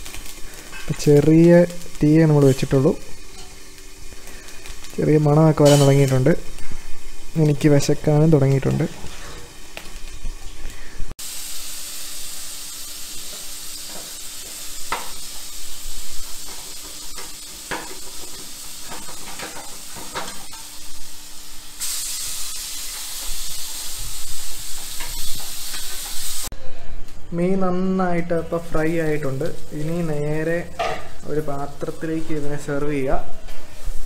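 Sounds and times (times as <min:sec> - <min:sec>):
fish sizzling in oil: 0:00.0 - 0:26.5, 0:28.7 - 0:34.0.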